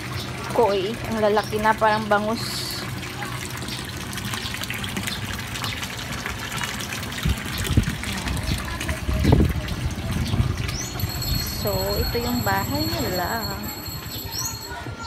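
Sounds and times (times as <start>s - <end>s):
water gushing into pond: 0.0s - 13.6s.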